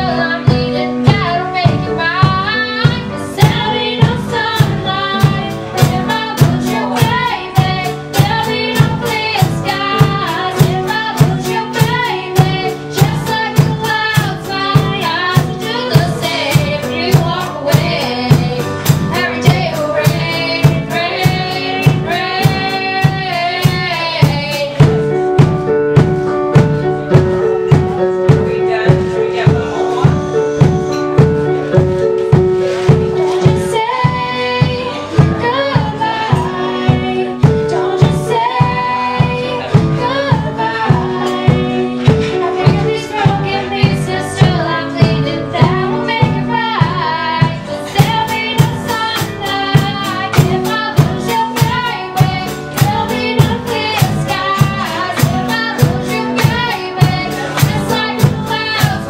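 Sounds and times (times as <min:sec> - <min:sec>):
young person singing: 0:00.0 - 0:25.5, 0:26.6 - 0:59.0
drum kit beat: 0:00.0 - 0:59.0
keyboard chords: 0:00.0 - 0:59.0.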